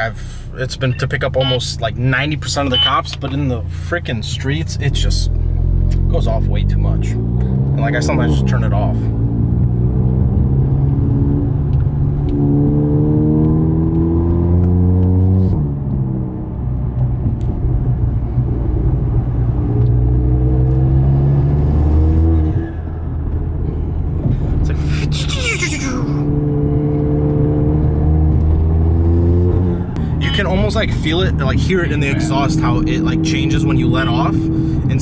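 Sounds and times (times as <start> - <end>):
car engine accelerating hard: 4.2 - 35.0.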